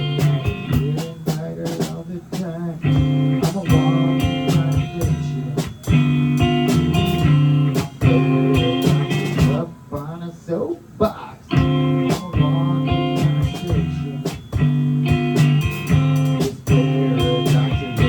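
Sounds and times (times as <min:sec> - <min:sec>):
guitar chords ringing: 0:00.0 - 0:01.4, 0:02.8 - 0:10.0, 0:11.5 - 0:18.0
drum hits: 0:00.0 - 0:02.0, 0:02.9 - 0:09.6, 0:11.6 - 0:18.0.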